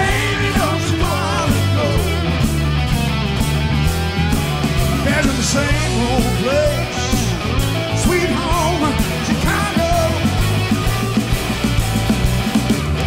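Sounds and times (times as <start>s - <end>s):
rock band music: 0.0s - 13.0s
steady drum beat: 0.0s - 13.0s.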